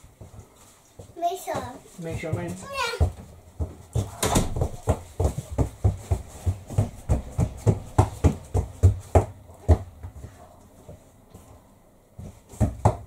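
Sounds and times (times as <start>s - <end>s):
child's footsteps stomping: 0.1s - 11.5s, 12.2s - 13.0s.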